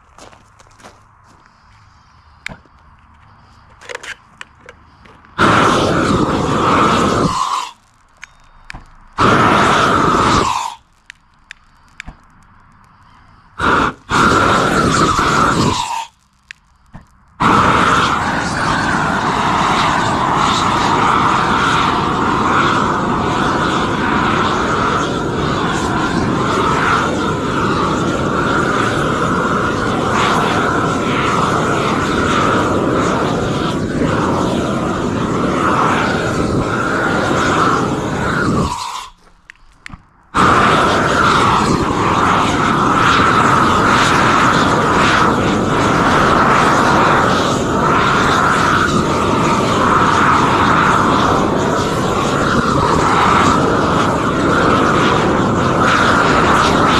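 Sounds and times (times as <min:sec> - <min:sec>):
torch flame rushing: 0:03.3 - 0:56.9.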